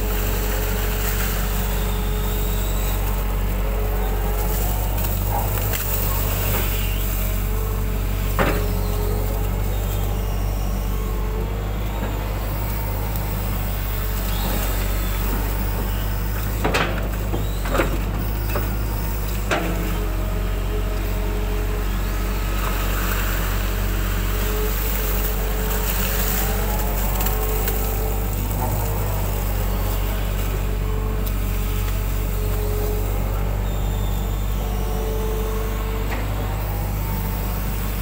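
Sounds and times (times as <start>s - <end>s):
diesel engine running: 0.0s - 38.0s
steady whine: 0.0s - 38.0s.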